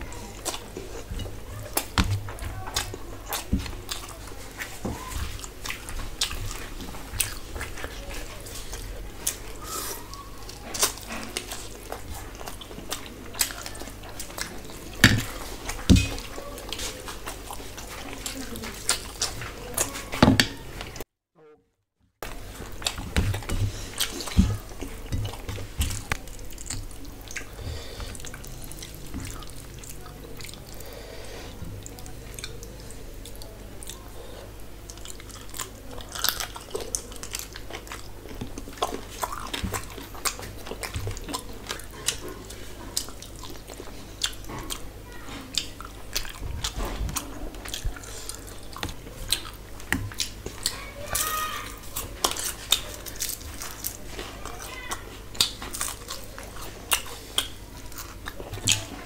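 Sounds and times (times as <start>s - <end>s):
chewing and lip-smacking: 0.0s - 21.0s, 22.2s - 31.0s, 31.8s - 34.2s, 34.8s - 59.0s.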